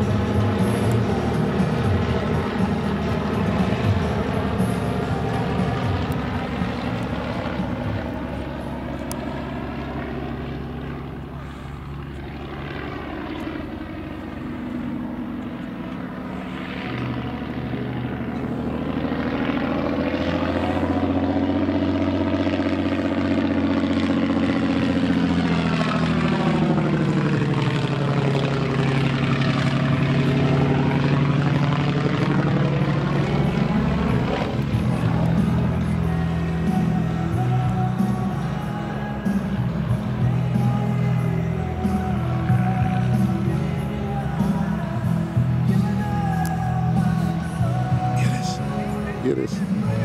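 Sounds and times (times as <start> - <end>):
biplane engine droning: 0.0 - 50.0.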